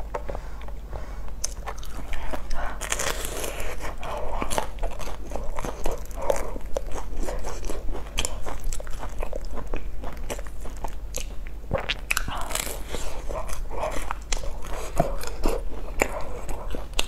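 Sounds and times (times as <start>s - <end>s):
crunchy chewing: 0.0s - 17.0s.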